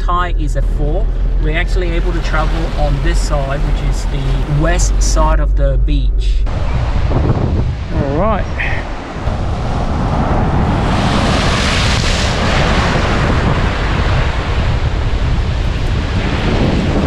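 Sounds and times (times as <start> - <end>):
surf rushing: 0.0 - 17.0
wind buffeting microphone: 0.0 - 17.0.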